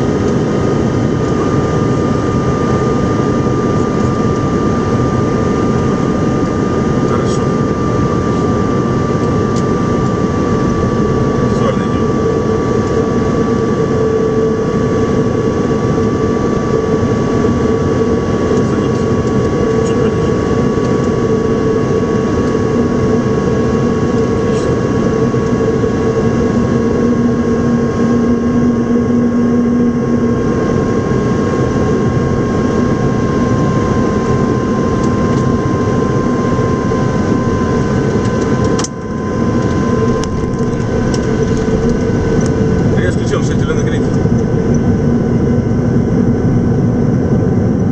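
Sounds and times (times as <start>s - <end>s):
airflow and engine rush: 0.0s - 47.9s
whining tones: 0.0s - 47.9s.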